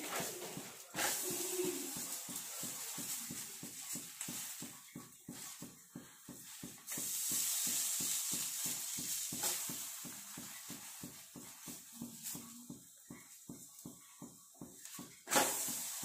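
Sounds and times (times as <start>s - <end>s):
ghee sizzling in a hot pan: 0.0s - 16.0s.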